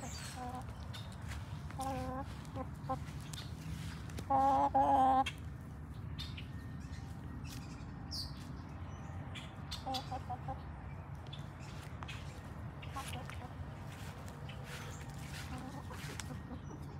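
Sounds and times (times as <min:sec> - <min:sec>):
hen clucking: 0:00.0 - 0:08.5, 0:09.2 - 0:16.9.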